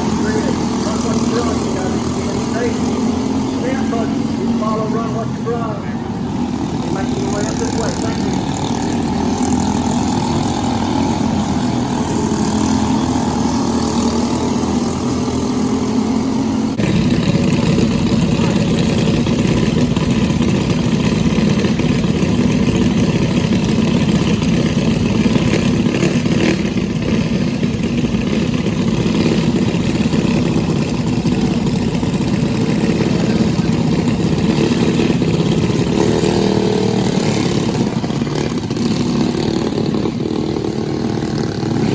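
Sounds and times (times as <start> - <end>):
kart engine running hard: 0.0 - 41.9.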